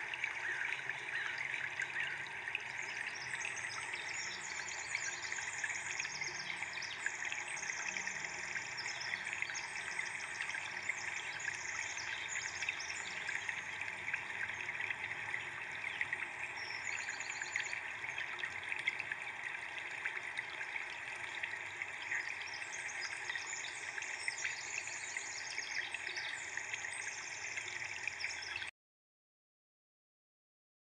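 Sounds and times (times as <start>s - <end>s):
running water: 0.0s - 28.7s.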